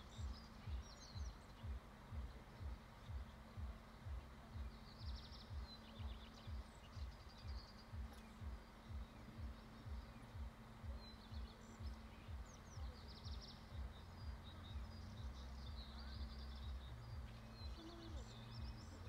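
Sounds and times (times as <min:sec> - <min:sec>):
low hum: 0:00.0 - 0:19.0
small birds chirping faintly: 0:00.0 - 0:19.0
soft low thuds: 0:00.0 - 0:19.0.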